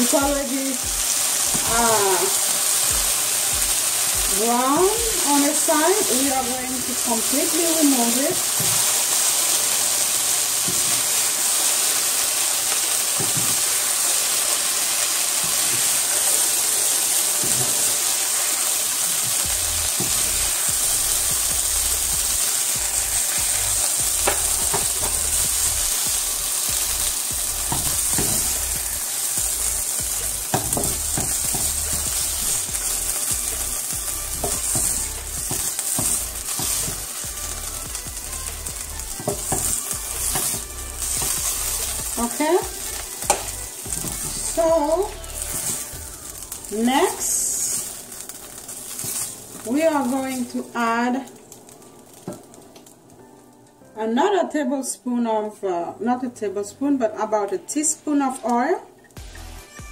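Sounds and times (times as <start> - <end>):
chicken sizzling in frying pan: 0.0 - 53.6.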